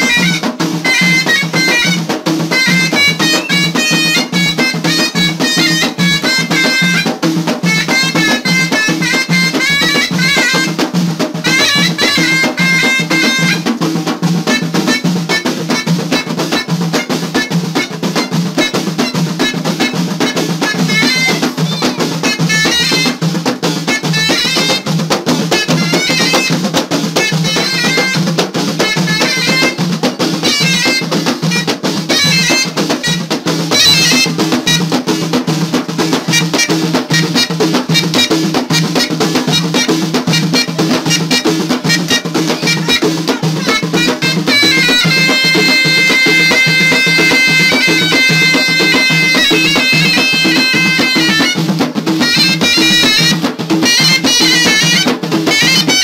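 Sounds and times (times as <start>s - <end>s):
frame drums beating: 0.0s - 56.0s
shawm playing folk melody: 0.0s - 56.0s.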